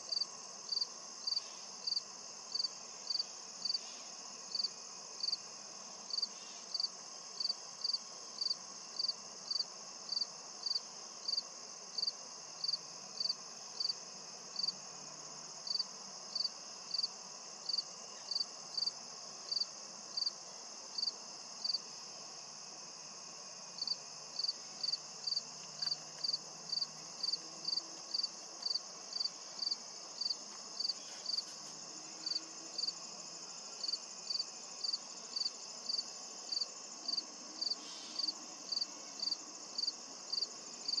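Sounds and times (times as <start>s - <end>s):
cricket chirping: 0.0s - 41.0s
high-pitched insect chorus: 0.0s - 41.0s.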